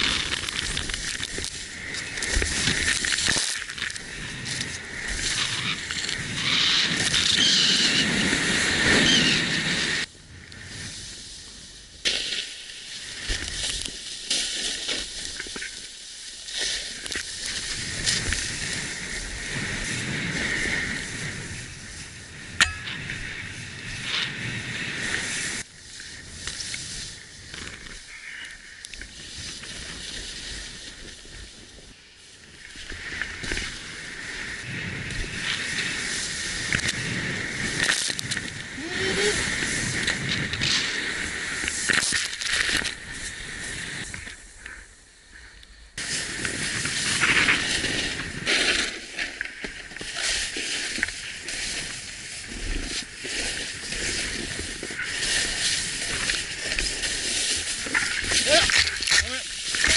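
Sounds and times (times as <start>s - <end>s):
snowboard sliding through powder snow: 0.0s - 59.9s.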